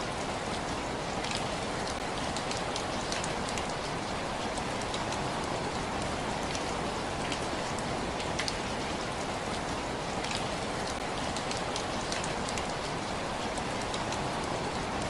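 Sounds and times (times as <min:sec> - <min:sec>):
raindrops ticking on surface: 0:00.0 - 0:15.0.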